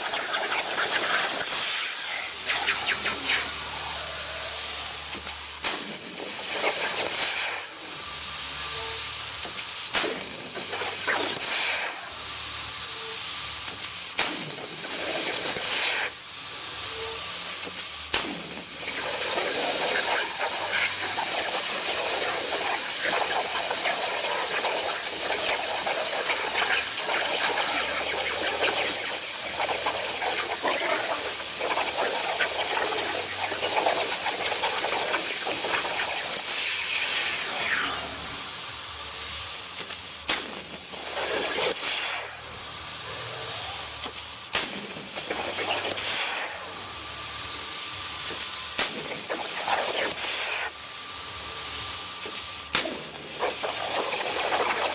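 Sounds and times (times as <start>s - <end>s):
plasma cutter torch hissing: 0.0s - 54.9s.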